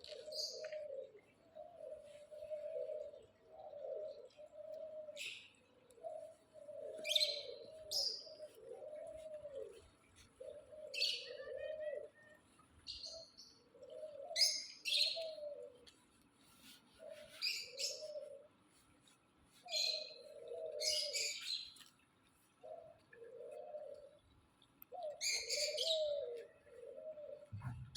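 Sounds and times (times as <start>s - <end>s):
doves cooing: 0.0s - 16.1s, 17.0s - 18.7s, 19.6s - 21.9s, 22.5s - 27.9s.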